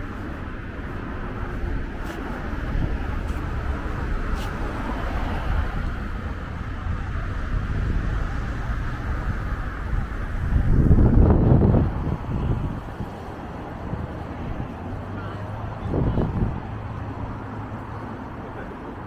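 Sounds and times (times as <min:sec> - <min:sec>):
wind buffeting microphone: 0:00.0 - 0:18.4
road traffic noise: 0:00.0 - 0:19.0.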